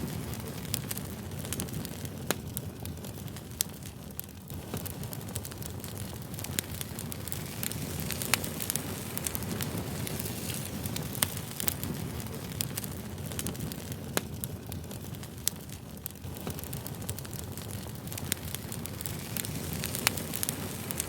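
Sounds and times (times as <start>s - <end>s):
campfire flames rushing: 0.0s - 21.0s
fire crackles and pops: 0.0s - 21.0s.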